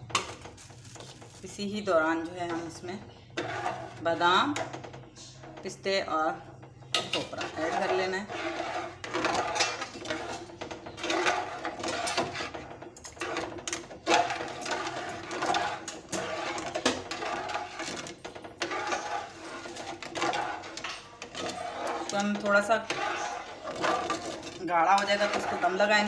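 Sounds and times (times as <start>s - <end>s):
metal spatula scraping a pot: 0.0s - 26.0s.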